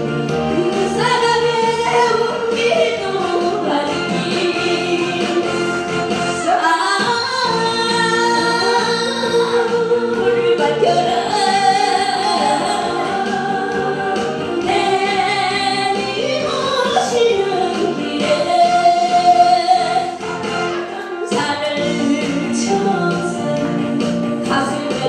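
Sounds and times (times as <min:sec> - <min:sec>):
amplified backing music: 0:00.0 - 0:25.0
woman singing into microphone: 0:00.4 - 0:25.0.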